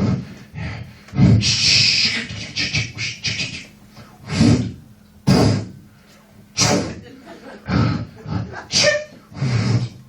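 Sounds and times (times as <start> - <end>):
beatbox rattling pulses: 0.0 - 5.8, 6.6 - 7.0, 7.7 - 10.0.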